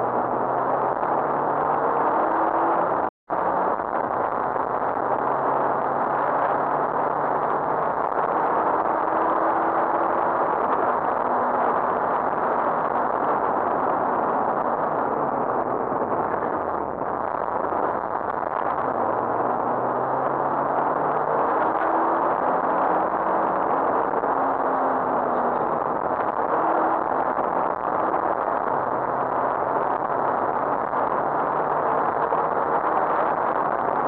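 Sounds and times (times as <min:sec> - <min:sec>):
rally car engine and road noise: 0:00.0 - 0:34.0.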